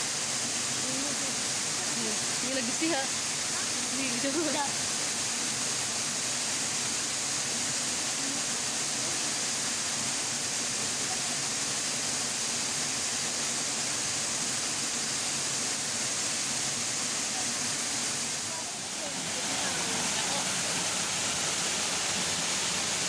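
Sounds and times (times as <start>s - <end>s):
rushing stream water: 0.0s - 23.0s.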